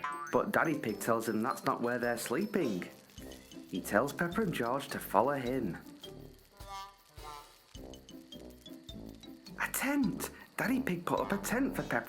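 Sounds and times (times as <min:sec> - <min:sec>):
soft cartoon background music: 0:00.0 - 0:12.0.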